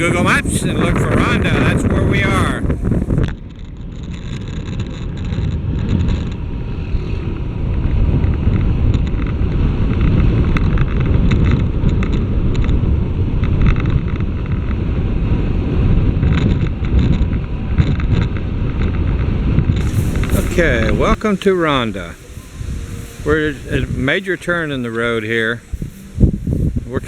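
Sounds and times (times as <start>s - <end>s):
motorcycle engine: 0.0s - 27.0s
road noise: 0.0s - 27.0s
wind rushing over microphone: 0.0s - 27.0s.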